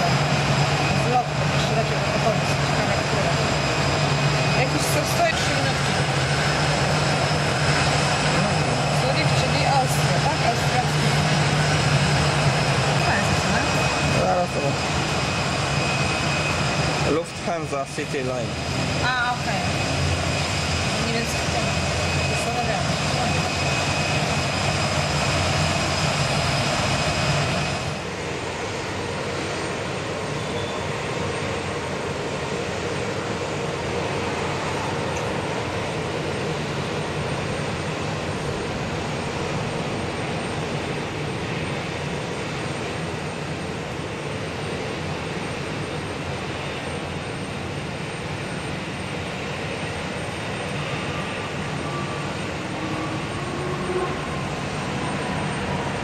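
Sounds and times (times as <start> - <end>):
jet airliner rushing and touching down: 0.0 - 56.0
jet engines whining: 0.0 - 56.0.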